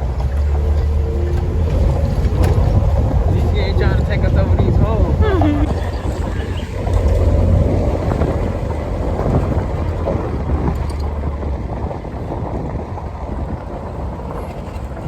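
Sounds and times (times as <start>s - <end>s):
atv engine running: 0.0s - 15.0s
wind buffeting microphone: 0.0s - 15.0s.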